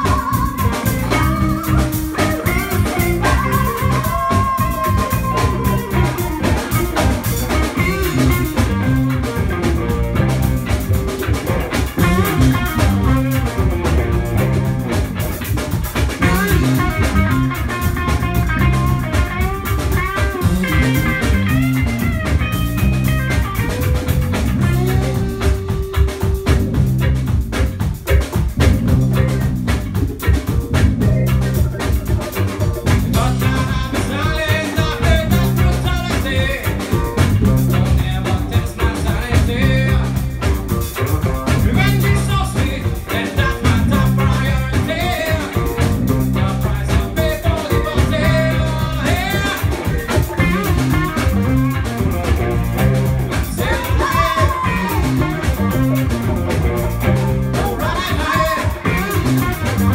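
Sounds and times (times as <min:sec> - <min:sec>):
reggae band playing: 0:00.0 - 0:59.9.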